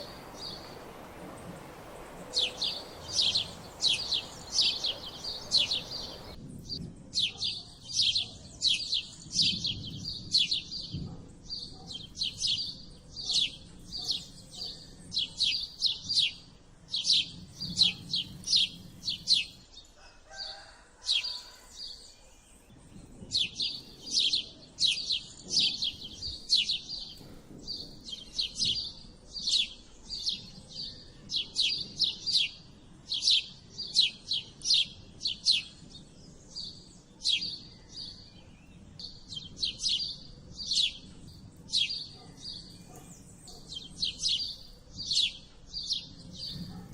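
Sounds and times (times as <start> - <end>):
sparrows chirping: 0.0 - 46.9.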